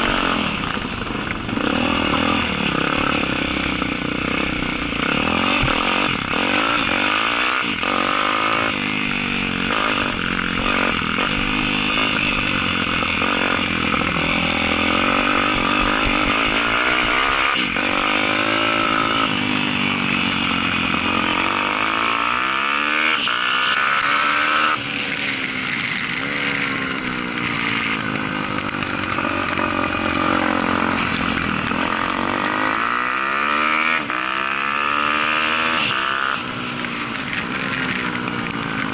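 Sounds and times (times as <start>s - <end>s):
pit bike engine racing: 0.0s - 38.9s.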